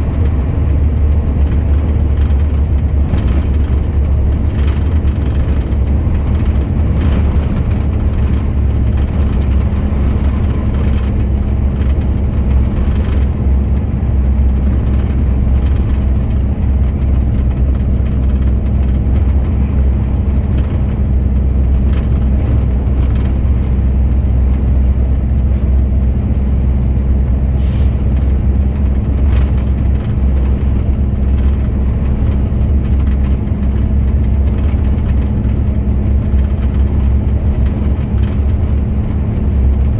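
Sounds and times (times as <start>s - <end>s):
heavy truck driving drone: 0.0s - 39.9s.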